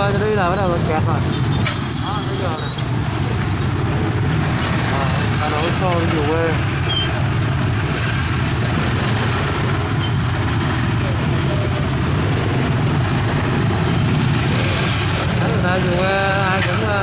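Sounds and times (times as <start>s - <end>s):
motorbike traffic rumble: 0.0s - 17.0s.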